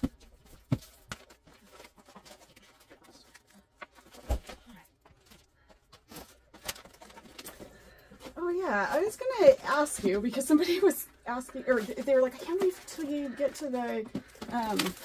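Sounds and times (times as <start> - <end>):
paper and plastic rustling: 0.0 - 15.0.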